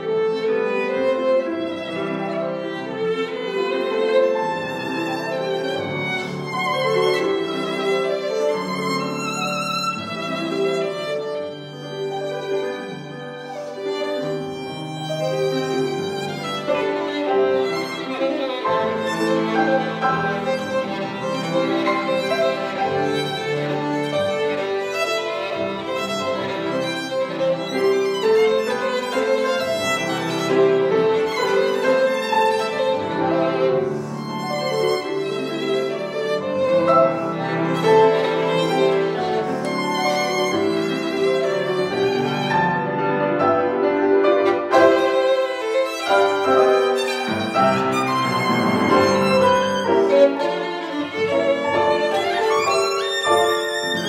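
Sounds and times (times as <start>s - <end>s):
piano: 0.0s - 54.0s
violin: 0.0s - 54.0s.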